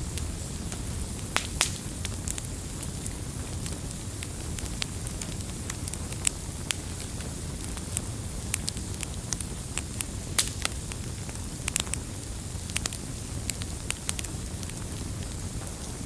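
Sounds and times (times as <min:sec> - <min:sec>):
wood fire roaring and crackling: 0:00.0 - 0:16.0.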